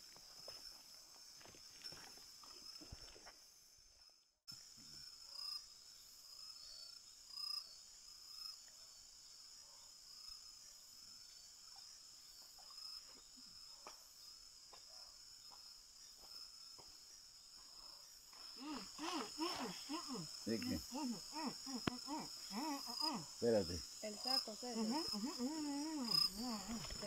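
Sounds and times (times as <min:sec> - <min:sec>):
crickets and insects trilling: 0:00.0 - 0:27.0.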